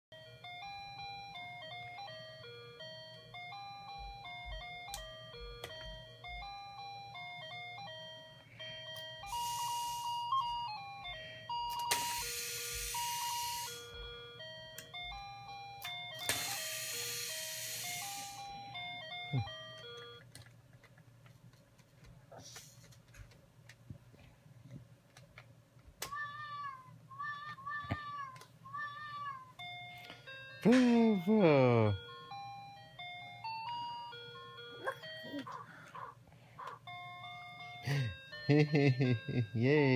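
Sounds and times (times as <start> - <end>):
toy beeping tune: 0.2 - 20.2, 27.2 - 39.9.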